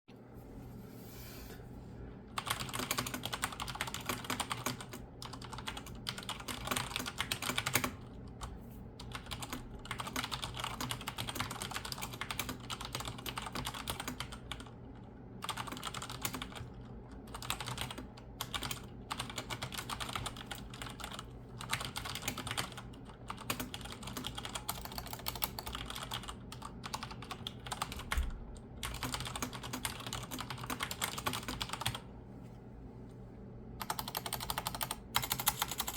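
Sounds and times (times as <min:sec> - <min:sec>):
fast typing on mechanical keyboard: 0:02.4 - 0:14.8, 0:15.4 - 0:32.0, 0:33.8 - 0:35.9.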